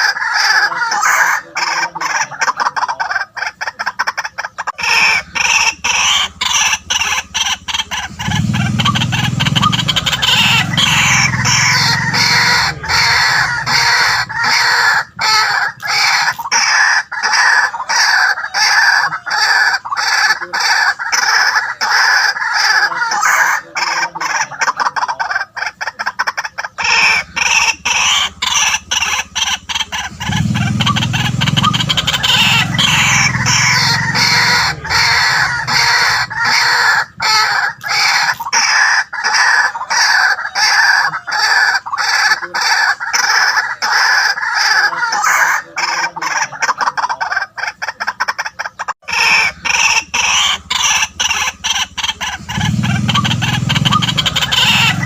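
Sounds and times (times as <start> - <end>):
waterhens calling: 0.0 - 55.0.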